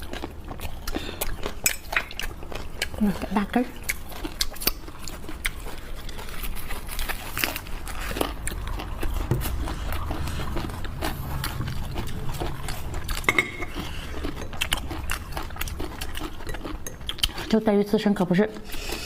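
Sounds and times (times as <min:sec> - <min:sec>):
person chewing food: 0:00.0 - 0:17.6, 0:18.5 - 0:19.0.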